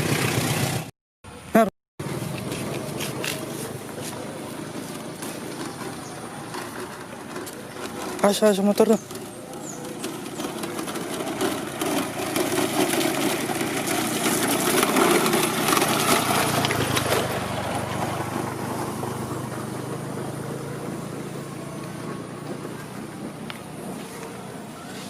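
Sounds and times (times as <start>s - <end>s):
low engine hum: 2.0s - 25.0s
vehicle passing by: 2.0s - 25.0s.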